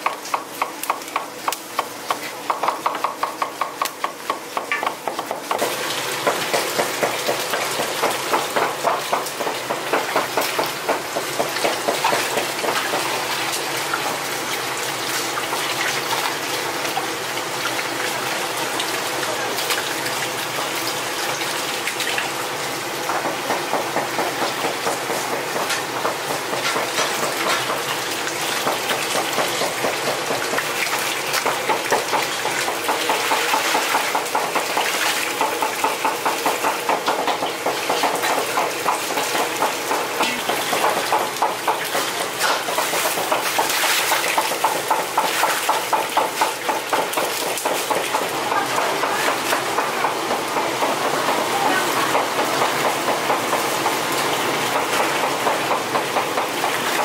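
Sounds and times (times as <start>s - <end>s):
steady kitchen noise: 0.0s - 57.0s.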